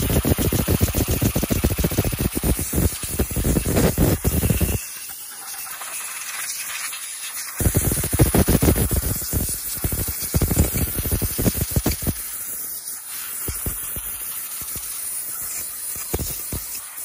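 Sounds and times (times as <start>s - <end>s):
air jet hissing: 0.0s - 5.1s, 5.9s - 17.0s.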